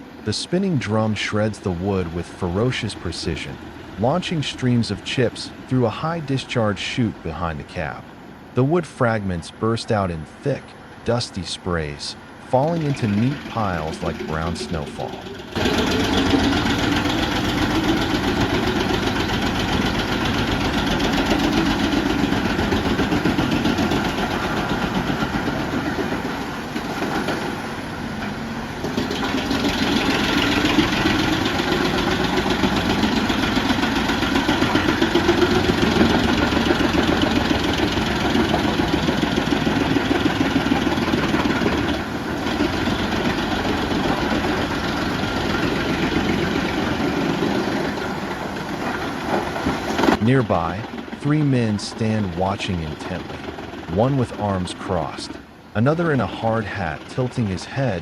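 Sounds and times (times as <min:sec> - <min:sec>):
wood chipper drone: 0:00.0 - 0:55.8.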